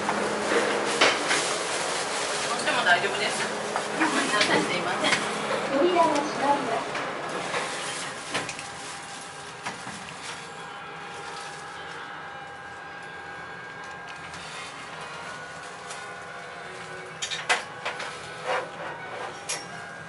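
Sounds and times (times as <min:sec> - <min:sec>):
elevator mechanical hum: 0:00.0 - 0:20.0.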